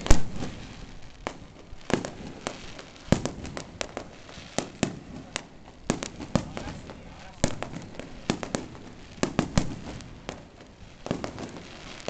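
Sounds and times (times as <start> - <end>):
fireworks bursting: 0.0 - 12.0
fireworks crackle: 0.0 - 12.0.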